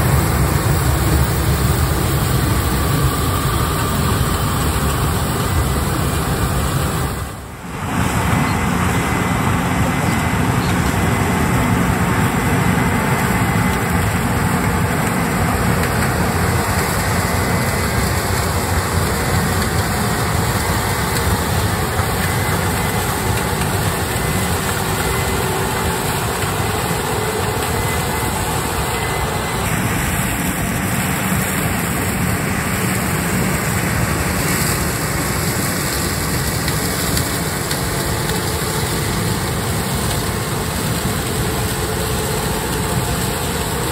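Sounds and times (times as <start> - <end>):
diesel harvesting machinery running: 0.0 - 43.9.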